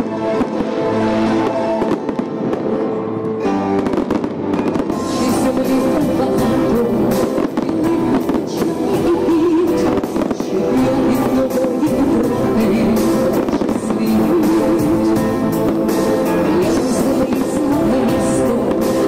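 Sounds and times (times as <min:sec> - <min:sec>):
fireworks bangs and crackles: 0:00.0 - 0:19.0
loud music: 0:00.0 - 0:19.0.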